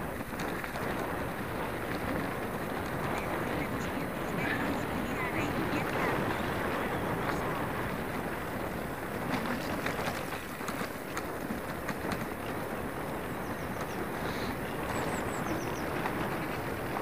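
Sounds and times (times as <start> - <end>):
bike rattling over bumps: 0.0 - 17.0
bike tyres rumbling on dirt track: 0.0 - 17.0.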